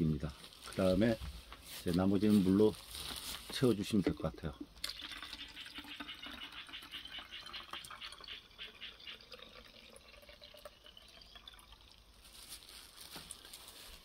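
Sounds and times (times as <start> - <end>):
water trickling into plastic bottle: 2.4 - 13.9.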